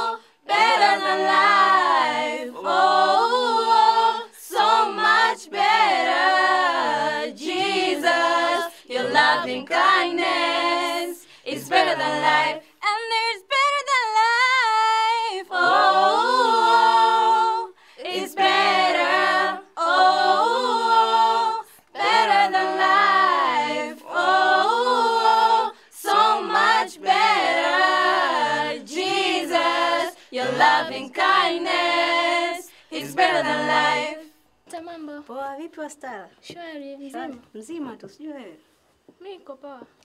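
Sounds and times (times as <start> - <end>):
group singing unaccompanied: 0.0 - 34.6.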